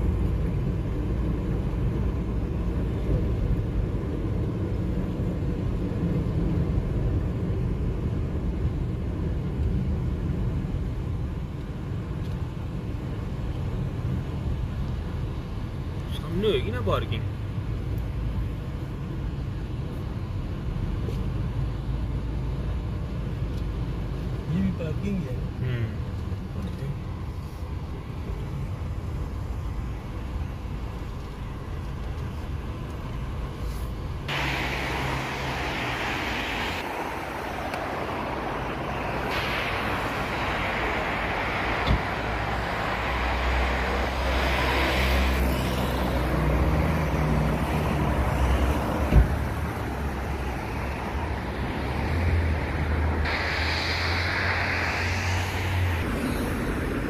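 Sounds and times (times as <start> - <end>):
car cabin road noise: 0.0 - 57.0
passing cars: 0.0 - 57.0.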